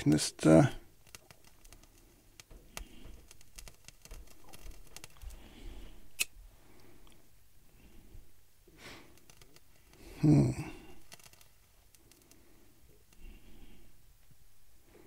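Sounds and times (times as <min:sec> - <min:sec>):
faint crackling flame: 0:00.0 - 0:15.0.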